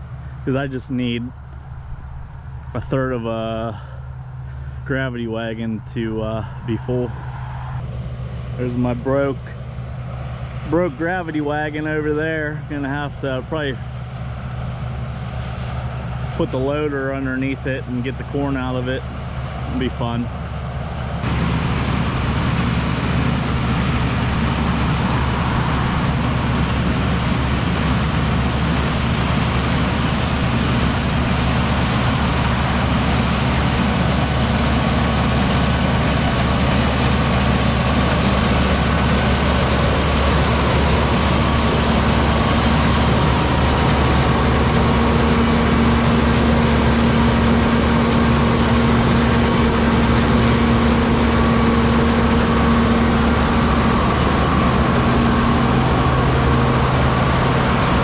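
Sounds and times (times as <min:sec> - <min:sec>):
farm machinery engine running: 0:00.0 - 0:58.0
steady whine: 0:00.0 - 0:58.0.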